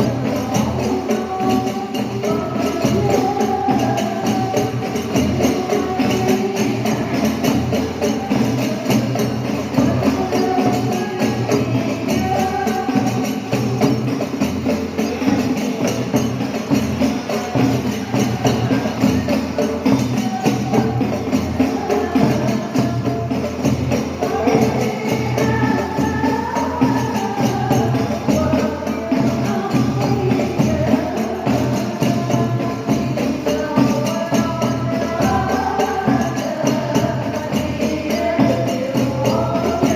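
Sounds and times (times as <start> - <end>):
frame drums rhythm: 0.0 - 39.9
women singing together: 0.0 - 39.9.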